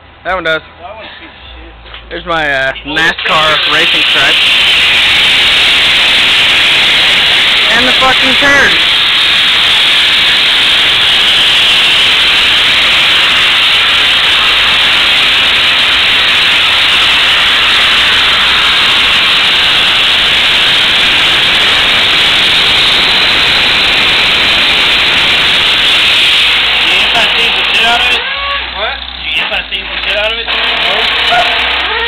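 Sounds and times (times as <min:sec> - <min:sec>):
loud steady hiss: 0:02.4 - 0:31.9.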